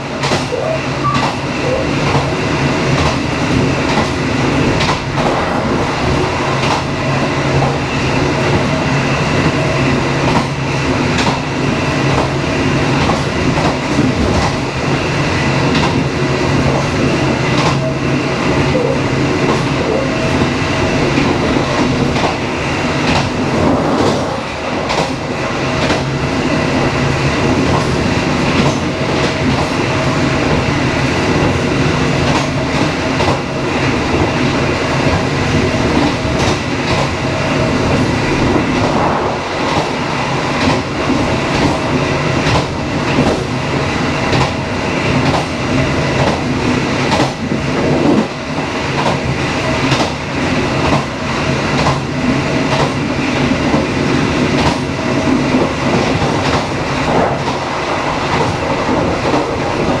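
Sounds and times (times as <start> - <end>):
rail joint clicks: 0.0 - 60.0
train wheels rumbling on rails: 0.0 - 60.0.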